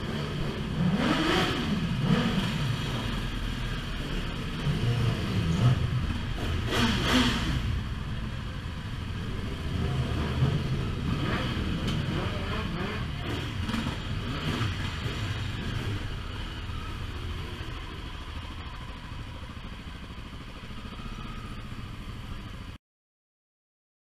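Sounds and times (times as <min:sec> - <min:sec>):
motorcycle engine revving: 0:00.0 - 0:22.6.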